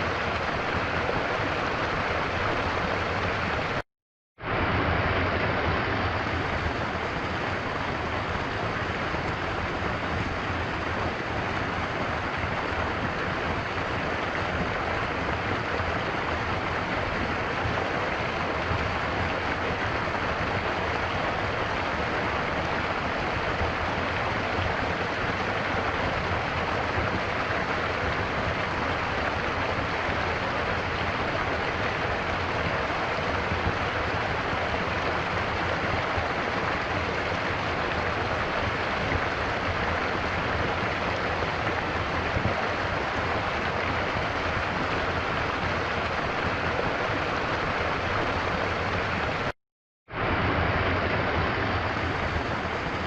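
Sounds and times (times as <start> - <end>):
stream water flowing: 0.0 - 3.8, 4.4 - 49.5, 50.1 - 53.0.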